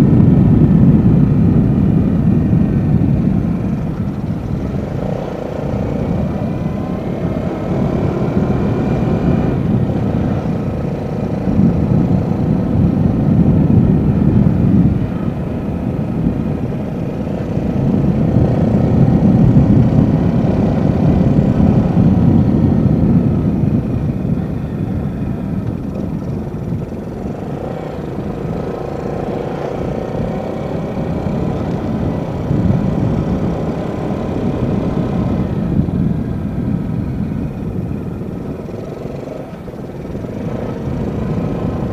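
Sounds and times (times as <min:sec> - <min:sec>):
motorcycle engine running: 0:00.0 - 0:41.9
wind noise on microphone: 0:00.0 - 0:41.9.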